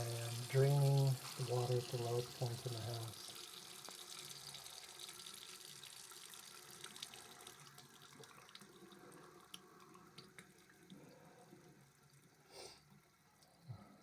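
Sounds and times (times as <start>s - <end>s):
water drips: 0.0s - 12.4s
faint running tap water: 0.0s - 14.0s.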